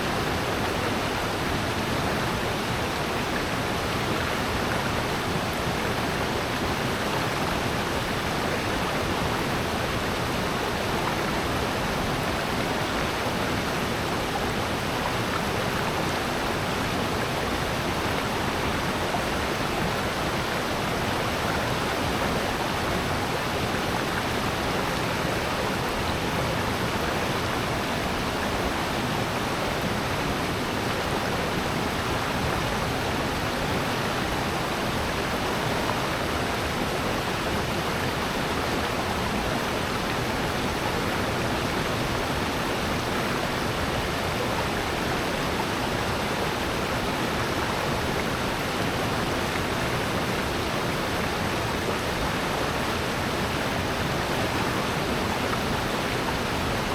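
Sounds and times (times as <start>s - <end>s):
rushing stream and waterfall: 0.0s - 56.9s.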